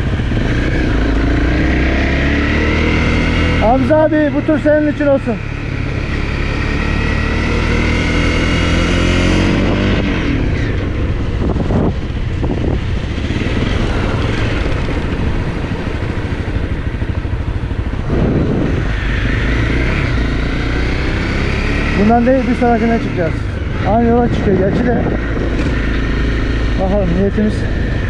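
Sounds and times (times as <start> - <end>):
dirt bike engine accelerating: 0.0 - 28.0.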